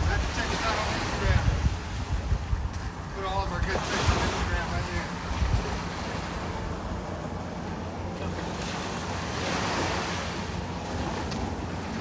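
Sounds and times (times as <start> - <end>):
ocean surf washing onto beach: 0.0 - 12.0
wind rumbling on microphone: 0.0 - 12.0.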